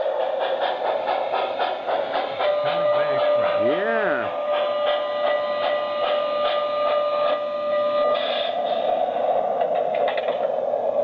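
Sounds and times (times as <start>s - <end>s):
model train clicking on track: 0.0s - 11.0s.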